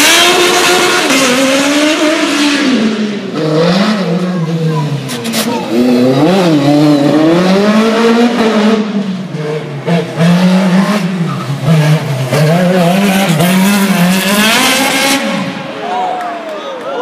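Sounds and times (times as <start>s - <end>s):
racing car engine revving: 0.0s - 15.8s.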